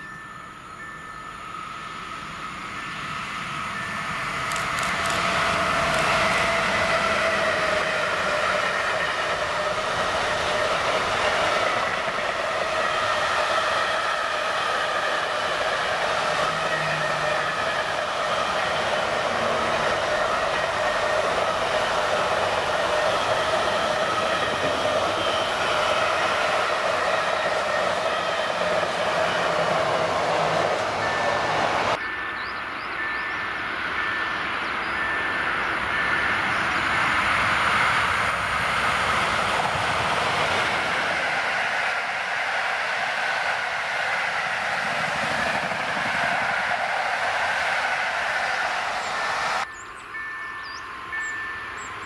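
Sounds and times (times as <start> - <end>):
locomotive whining tones: 0.0 - 52.0.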